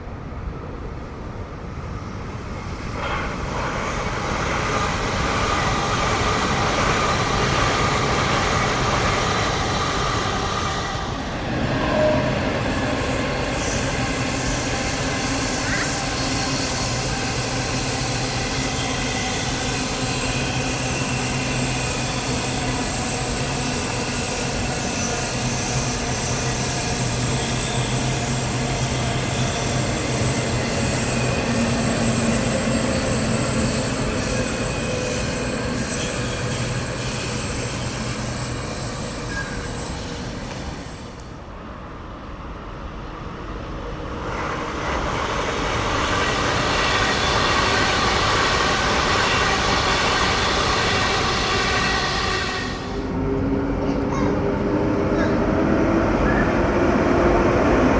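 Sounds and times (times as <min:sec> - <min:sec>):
train rumbling past: 0:00.0 - 0:57.9.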